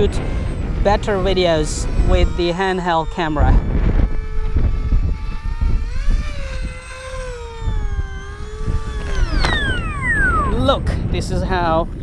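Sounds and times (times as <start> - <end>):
model plane motor whining: 0.0 - 11.8.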